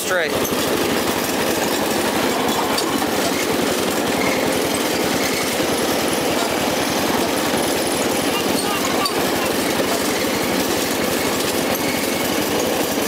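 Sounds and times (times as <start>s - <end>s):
lawn mower engine puttering: 0.0s - 13.0s.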